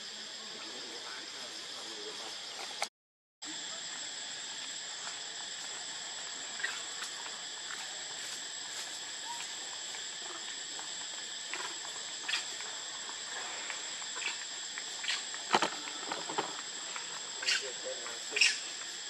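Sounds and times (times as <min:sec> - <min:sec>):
chorus of insects droning: 0:00.0 - 0:19.0.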